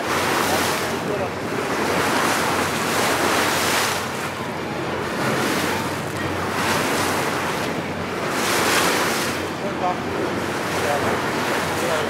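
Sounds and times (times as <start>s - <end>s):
boat engine hum: 0.0s - 12.0s
water splashing past boat hull: 0.0s - 12.0s.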